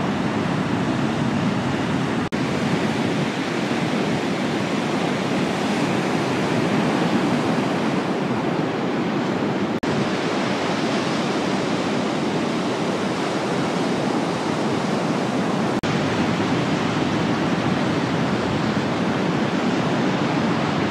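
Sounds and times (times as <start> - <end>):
surf breaking on beach: 0.0 - 20.9.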